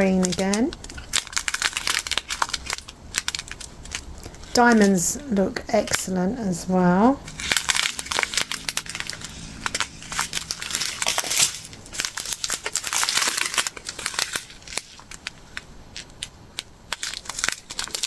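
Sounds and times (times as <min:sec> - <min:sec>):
plastic bags crinkling: 0:00.0 - 0:06.1, 0:07.2 - 0:18.0.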